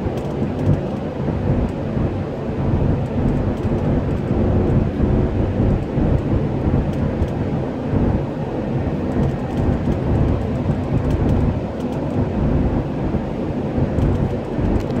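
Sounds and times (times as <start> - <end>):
tyre and wind noise in car: 0.0 - 15.0.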